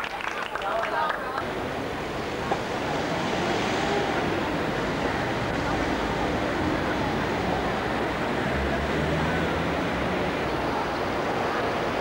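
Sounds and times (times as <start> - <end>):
faint voices: 0.0 - 12.0
cars and buses passing: 0.6 - 12.0.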